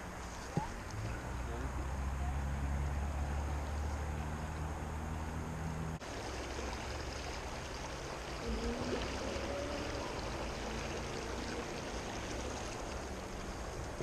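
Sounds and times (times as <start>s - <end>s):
creek flowing over rocks: 0.0s - 14.0s.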